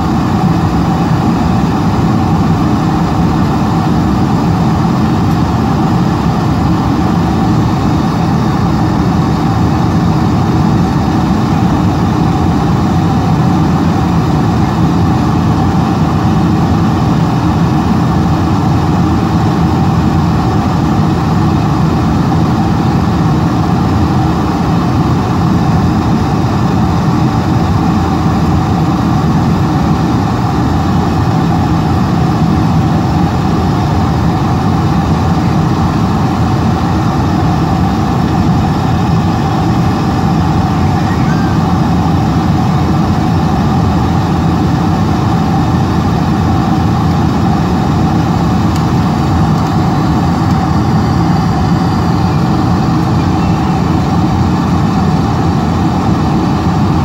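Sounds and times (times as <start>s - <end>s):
airliner cabin airflow and engines: 0.0s - 57.0s.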